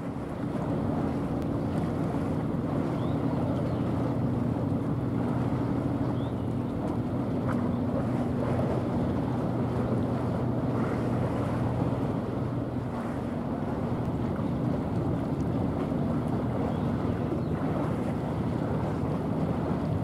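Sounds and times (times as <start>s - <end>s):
moving water: 0.0s - 20.0s
ship diesel engine droning: 0.0s - 20.0s
wind on microphone: 0.0s - 20.0s.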